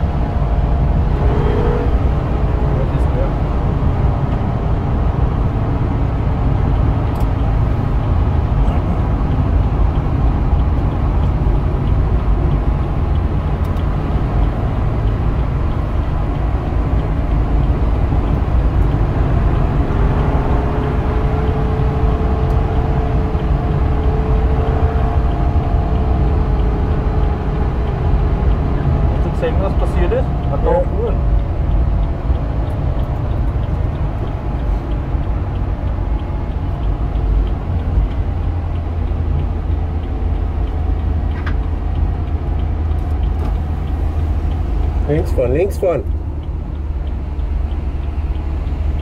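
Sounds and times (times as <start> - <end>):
car engine under hard driving: 0.0 - 49.0.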